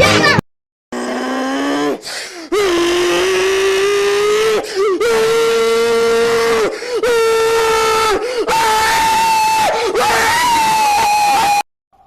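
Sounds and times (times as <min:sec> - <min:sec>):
loud scream-like wailing: 0:01.0 - 0:11.7.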